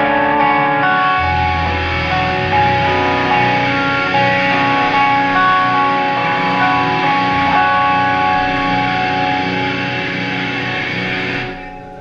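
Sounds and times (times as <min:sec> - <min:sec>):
distorted electric guitar chord: 0:00.0 - 0:12.0.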